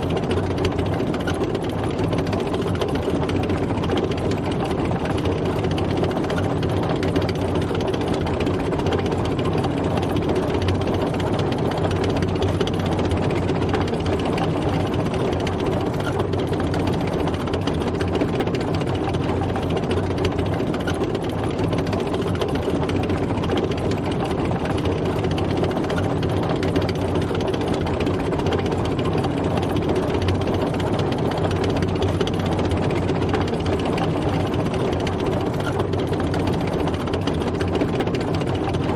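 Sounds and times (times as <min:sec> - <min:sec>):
clatter of tank tracks: 0:00.0 - 0:38.9
heavy engine running: 0:00.0 - 0:38.9.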